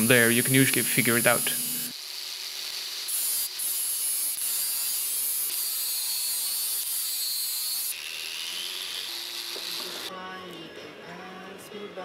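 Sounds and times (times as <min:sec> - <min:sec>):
angle grinder grinding steel: 0:00.0 - 0:10.1.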